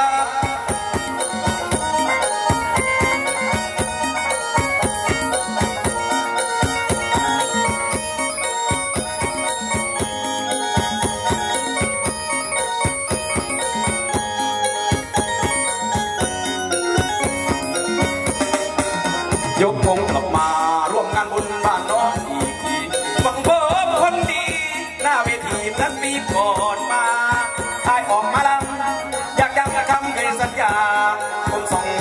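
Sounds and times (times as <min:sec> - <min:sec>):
high melody over drum beat: 0:00.0 - 0:32.0.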